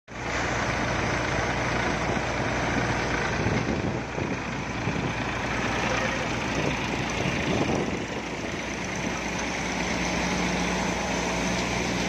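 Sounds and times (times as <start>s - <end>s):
low engine hum: 0.1s - 12.0s.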